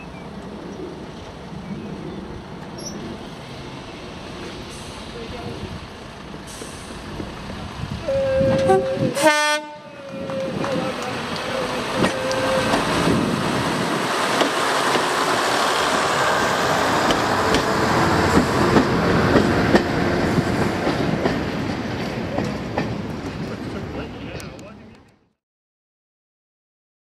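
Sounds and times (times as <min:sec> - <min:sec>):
diesel railcar engine: 0:00.0 - 0:25.3.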